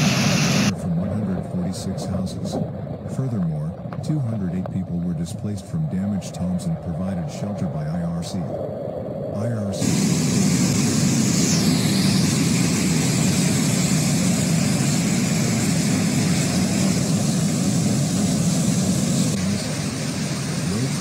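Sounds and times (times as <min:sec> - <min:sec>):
floodwater rushing roar: 0:00.0 - 0:08.6, 0:09.3 - 0:21.0.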